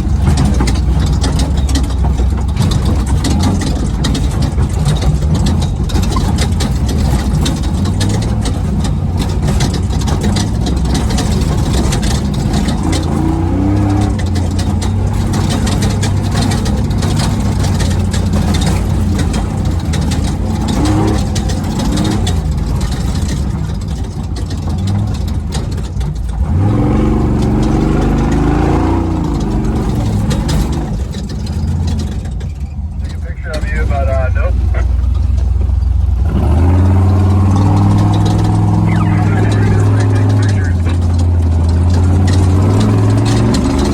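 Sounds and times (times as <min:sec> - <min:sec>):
rush of driving noise: 0:00.0 - 0:43.9
truck engine revving: 0:00.0 - 0:43.9.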